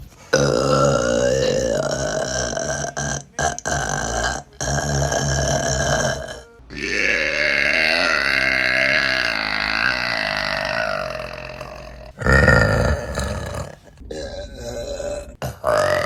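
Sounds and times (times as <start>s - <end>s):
women burping: 0.1s - 16.0s.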